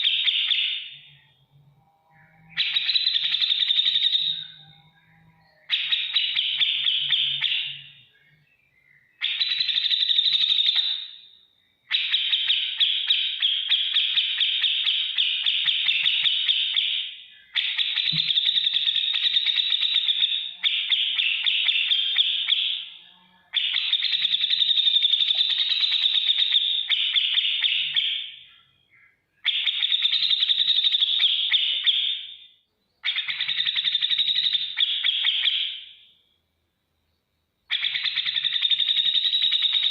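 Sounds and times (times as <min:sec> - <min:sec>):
bird ticking chatter song: 0:00.0 - 0:36.3, 0:37.0 - 0:39.9.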